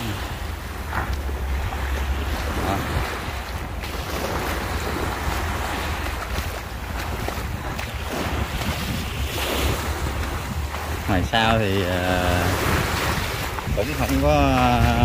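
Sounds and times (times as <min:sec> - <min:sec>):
small waves washing over rocks: 0:00.0 - 0:15.0
waves splashing against concrete: 0:00.0 - 0:15.0
wind buffeting microphone: 0:00.0 - 0:15.0.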